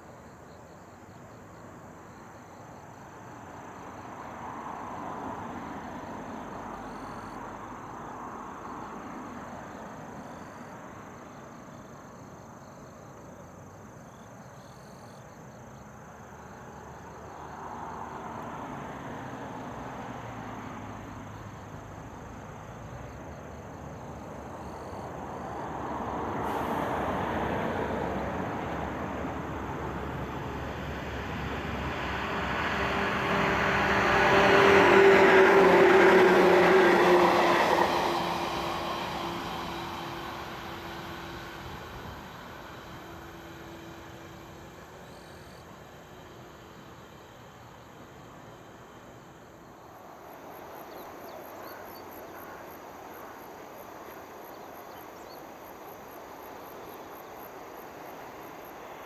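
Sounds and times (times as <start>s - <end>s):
faint insect chirping: 0.0s - 35.3s, 36.2s - 59.0s
train running on rails: 0.0s - 59.0s.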